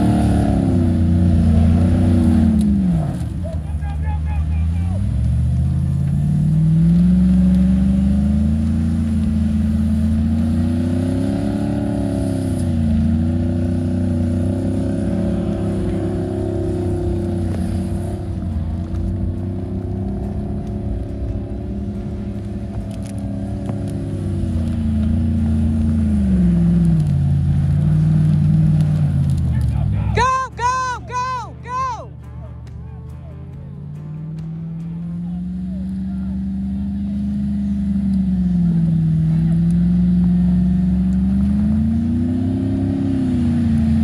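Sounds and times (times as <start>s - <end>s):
vehicle engines revving hard: 0.0s - 31.6s, 32.2s - 44.0s.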